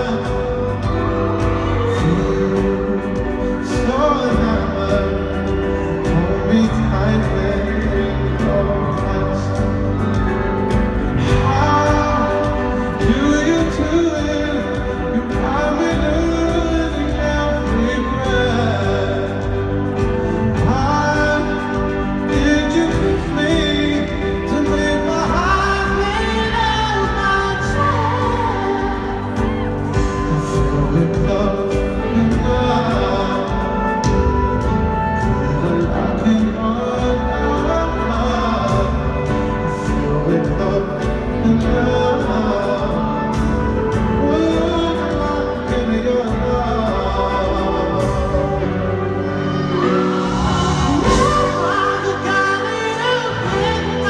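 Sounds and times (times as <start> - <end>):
backing band playing: 0.0 - 54.0
man singing into a microphone: 0.0 - 54.0.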